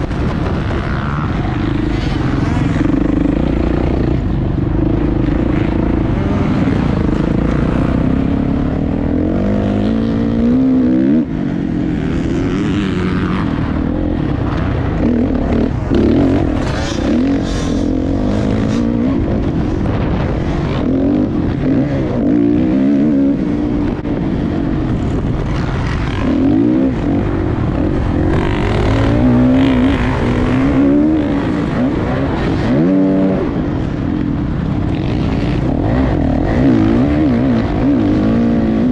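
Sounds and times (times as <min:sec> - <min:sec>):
dirt bike engine revving: 0:00.0 - 0:38.9
rushing wind noise: 0:00.0 - 0:38.9.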